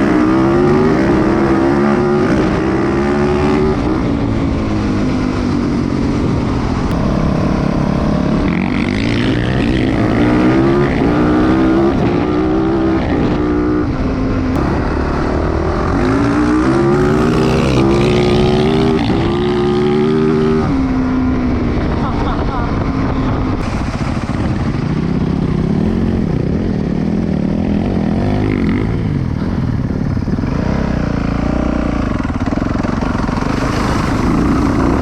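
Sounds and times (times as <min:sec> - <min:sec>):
dirt bike engine accelerating: 0:00.0 - 0:35.0.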